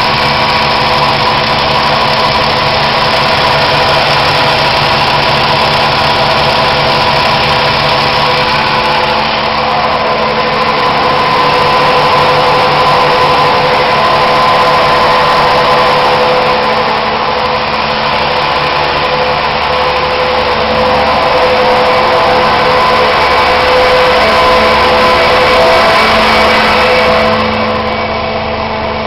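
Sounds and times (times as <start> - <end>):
pump running with whine: 0.0 - 29.0.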